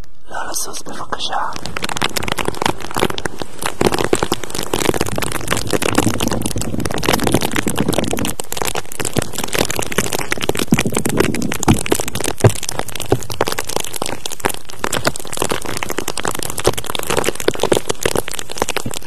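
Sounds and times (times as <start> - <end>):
crackling and crinkling: 0.0 - 19.0
sharp cracks: 0.0 - 19.0.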